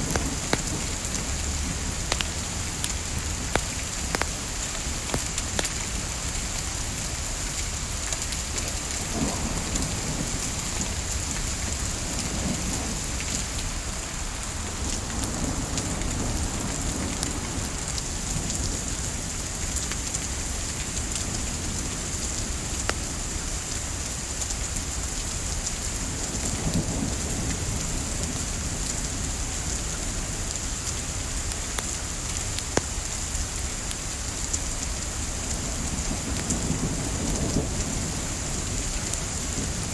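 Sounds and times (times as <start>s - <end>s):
burning wood crackling: 0.0s - 23.8s, 30.6s - 39.9s
gentle rain hissing: 0.0s - 39.9s.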